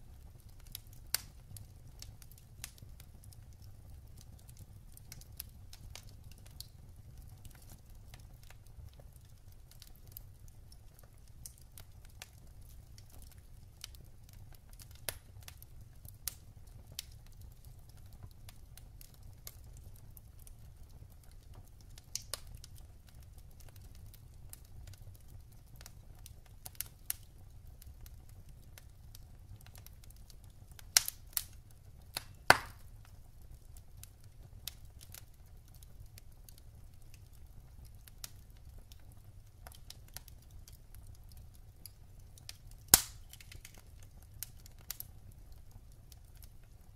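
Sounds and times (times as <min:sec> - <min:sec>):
fire rumbling in fireplace: 0:00.0 - 0:46.9
logs crackling and popping: 0:00.0 - 0:46.9.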